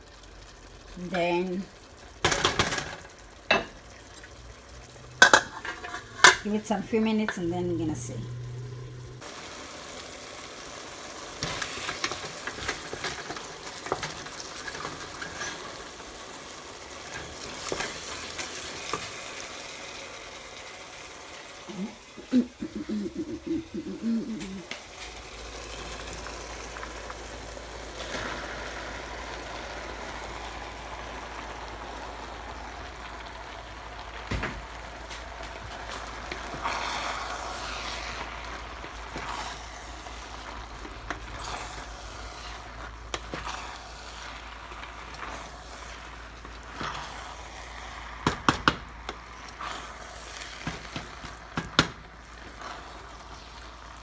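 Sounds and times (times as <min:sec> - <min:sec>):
pot simmering: 0:00.0 - 0:54.0.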